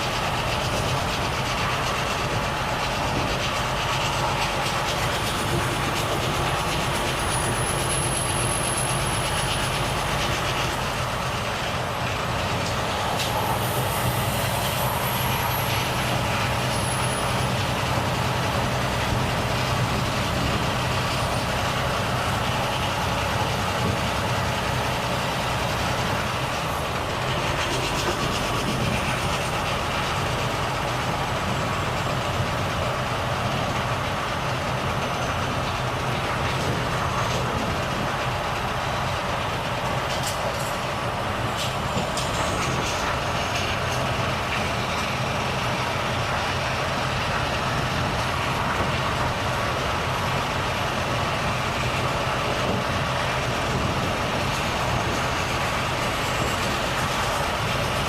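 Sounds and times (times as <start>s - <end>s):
road and tyre noise: 0.0s - 58.0s
truck diesel engine running: 0.0s - 58.0s.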